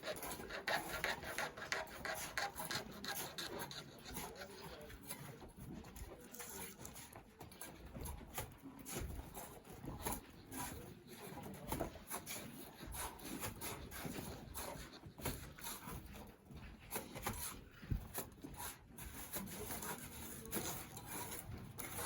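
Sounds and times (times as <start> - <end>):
trowel scraping mortar: 0.0 - 5.6, 8.4 - 16.2, 16.9 - 22.0.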